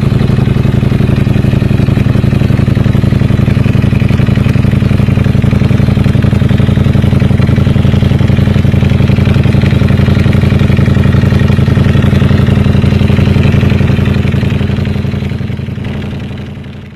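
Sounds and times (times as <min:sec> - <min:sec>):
motorcycle idling: 0:00.0 - 0:16.9.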